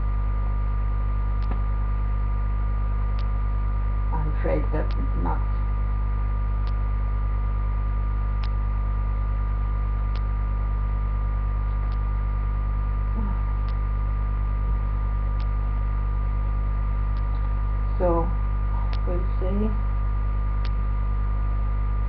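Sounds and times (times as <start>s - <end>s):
buzzing mains hum: 0.0s - 22.0s.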